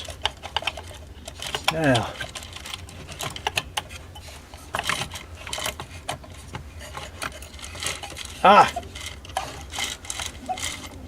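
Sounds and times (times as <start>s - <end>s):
rustling scrapes: 0.0s - 11.0s
small metal parts clicking: 0.0s - 11.0s.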